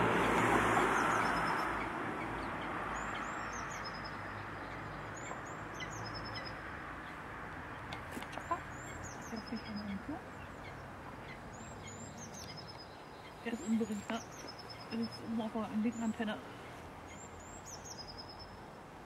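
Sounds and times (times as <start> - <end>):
city traffic roar: 0.0 - 19.0.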